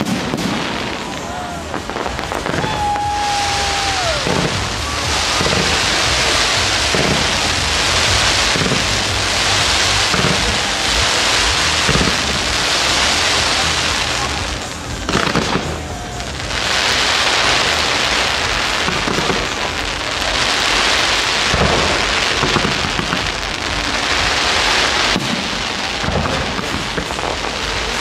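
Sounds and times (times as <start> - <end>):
deep firework bangs: 0.0 - 28.0
firework whistle: 0.0 - 28.0
fireworks crackling: 0.0 - 28.0.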